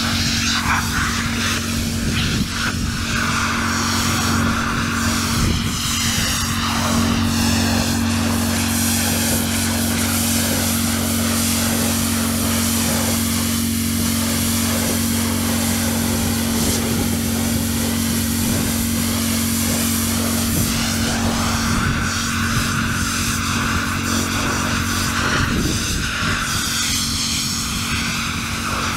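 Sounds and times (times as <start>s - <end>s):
pressure washer engine drone: 0.0s - 28.9s
water spray hissing: 0.0s - 28.9s.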